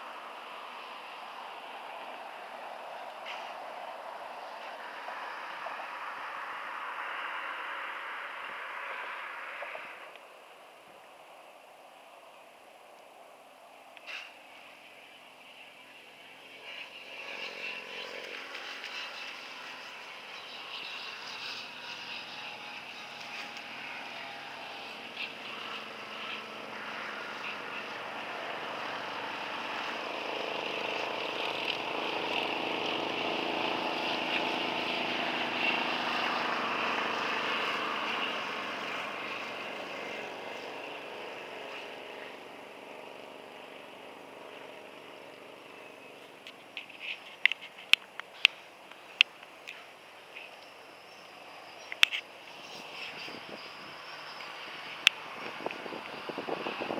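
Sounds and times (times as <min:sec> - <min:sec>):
distant engine passing by: 0:00.0 - 0:56.9.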